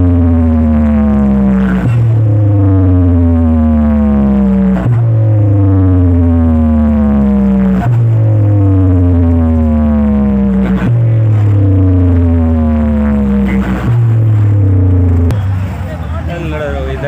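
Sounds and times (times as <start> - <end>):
electronic music: 0.0 - 15.8
synthesized tone sliding downward: 0.0 - 15.8
heavy steady bass: 0.0 - 17.0.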